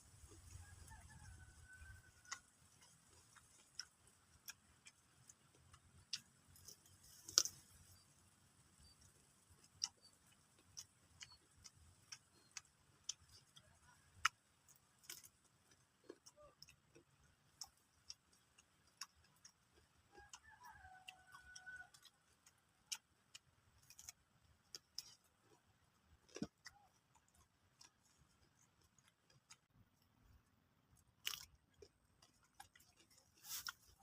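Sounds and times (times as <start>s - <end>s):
crunchy chewing: 0.0s - 34.0s.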